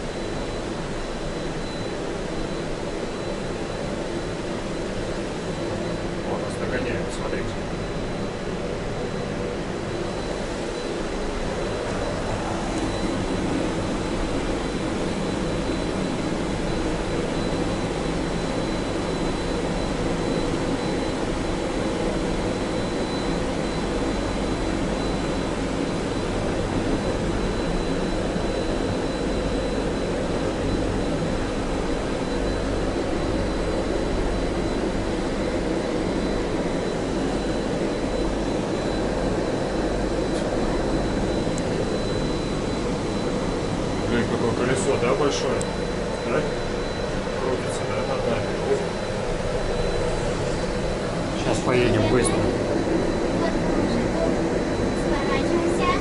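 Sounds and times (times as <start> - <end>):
lift machinery hum and rumble: 0.0 - 56.0
thin high whine: 0.0 - 56.0.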